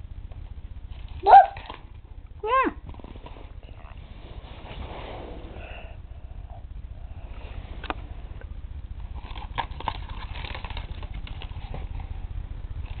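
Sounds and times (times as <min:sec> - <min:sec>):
low rumble: 0:01.9 - 0:13.0.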